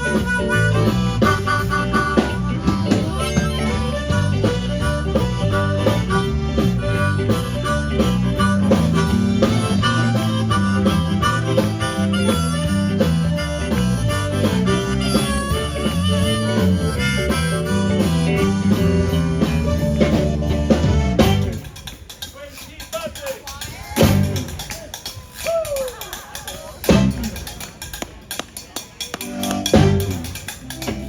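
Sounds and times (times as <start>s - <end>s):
harmonica lead: 0.0s - 22.3s, 26.4s - 27.9s, 29.2s - 31.0s
blues band playing: 0.0s - 31.0s.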